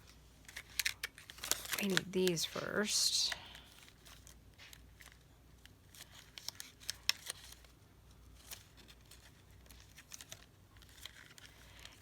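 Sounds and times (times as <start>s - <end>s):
paper handling clicks: 0.4s - 2.6s, 3.9s - 7.7s, 8.4s - 12.0s.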